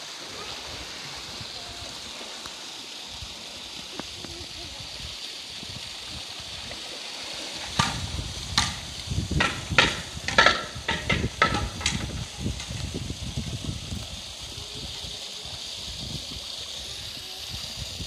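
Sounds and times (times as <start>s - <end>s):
flowing water hiss: 0.0s - 18.0s
water splashing: 0.0s - 18.0s
water streaming onto concrete: 0.0s - 18.0s.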